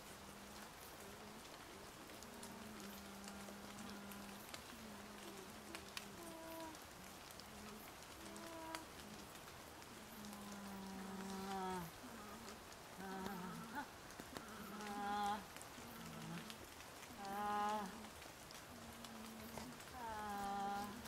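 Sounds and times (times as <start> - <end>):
faint ticks: 0.0 - 21.0
woman humming softly: 0.0 - 21.0.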